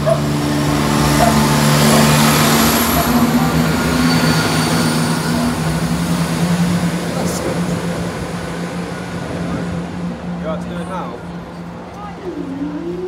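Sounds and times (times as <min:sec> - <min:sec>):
train wheels rumbling: 0:00.0 - 0:12.1
diesel engines humming: 0:00.0 - 0:13.0.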